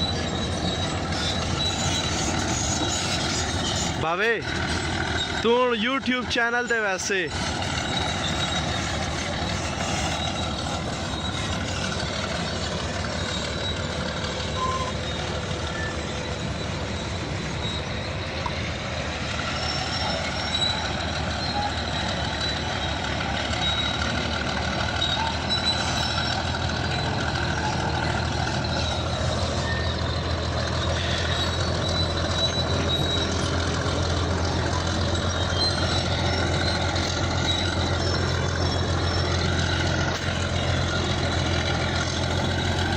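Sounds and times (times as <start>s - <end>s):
bulldozer diesel engine drone: 0.0s - 42.9s.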